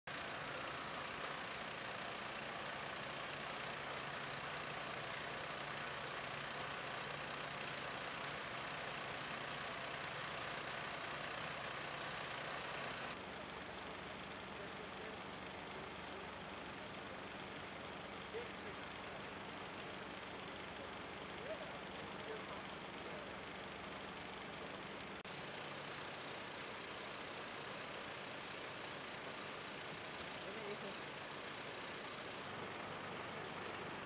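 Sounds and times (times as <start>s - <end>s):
fire engines idling: 0.1s - 34.0s.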